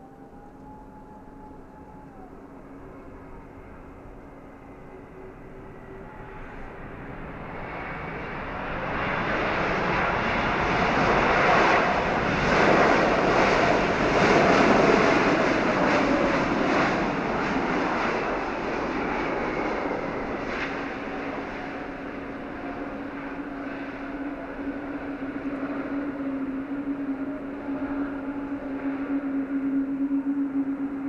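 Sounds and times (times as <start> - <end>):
airliner jet engines passing: 0.0 - 31.0.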